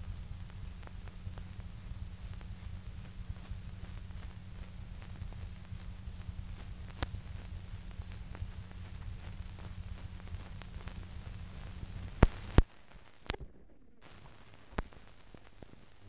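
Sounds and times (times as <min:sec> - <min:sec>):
faint crackle: 0:00.0 - 0:16.0
steady low hum: 0:00.0 - 0:16.0.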